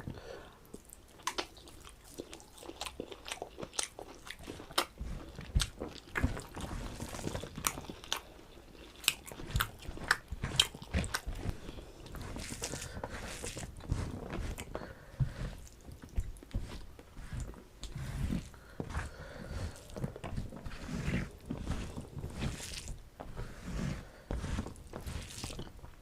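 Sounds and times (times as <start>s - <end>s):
chewing food: 0.0s - 26.0s.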